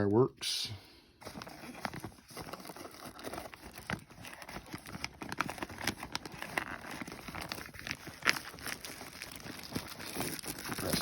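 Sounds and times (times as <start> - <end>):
packaging rustling and crinkling: 1.2 - 11.0.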